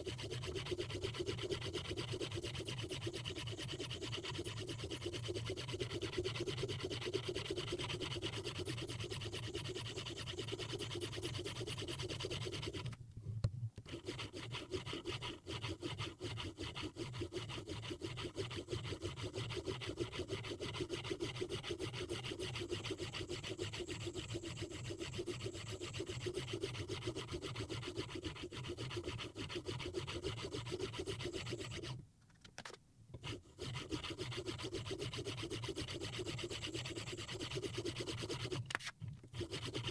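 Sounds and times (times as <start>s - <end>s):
stone rasping on knife edge: 0.0s - 13.0s, 13.9s - 32.0s, 32.6s - 39.9s.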